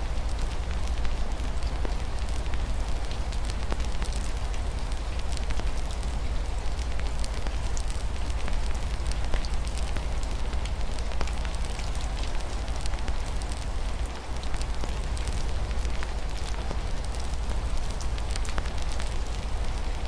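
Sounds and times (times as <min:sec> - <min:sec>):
rain pattering: 0:00.0 - 0:20.0
wood fire crackling and popping: 0:00.1 - 0:20.0.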